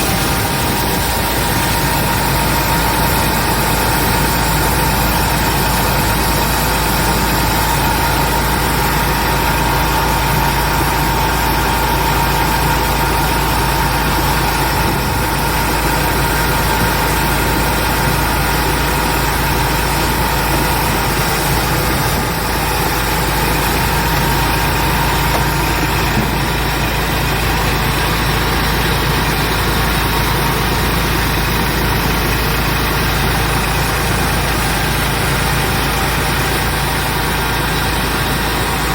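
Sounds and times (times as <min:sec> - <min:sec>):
washing machine drone: 0:00.0 - 0:38.9.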